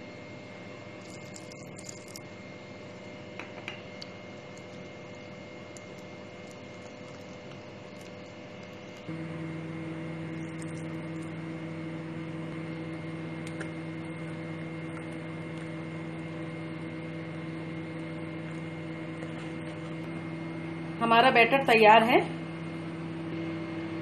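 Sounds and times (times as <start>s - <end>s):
electric hand mixer humming: 0.8s - 24.0s.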